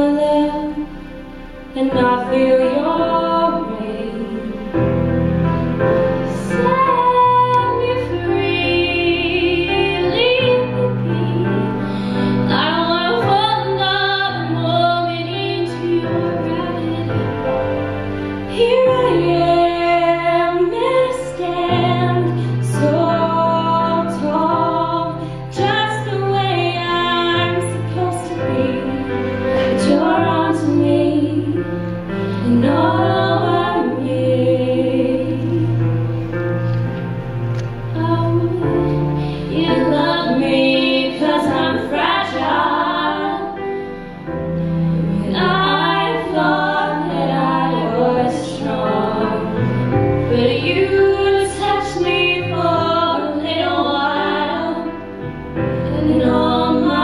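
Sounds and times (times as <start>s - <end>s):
women singing a ballad duet: 0.0s - 1.1s, 1.7s - 4.7s, 6.3s - 17.7s, 18.3s - 36.1s, 37.9s - 43.9s, 44.9s - 55.2s, 55.8s - 57.0s
sustained low backing notes: 0.0s - 57.0s.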